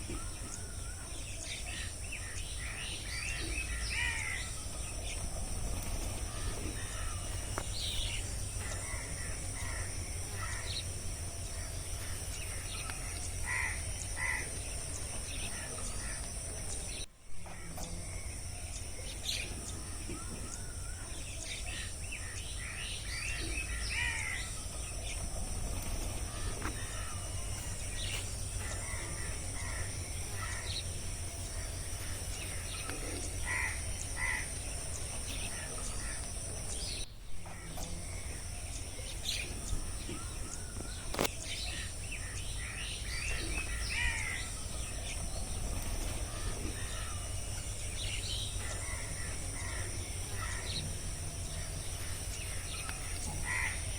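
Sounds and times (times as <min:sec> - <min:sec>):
bird calls and chirps: 0:00.0 - 0:53.9.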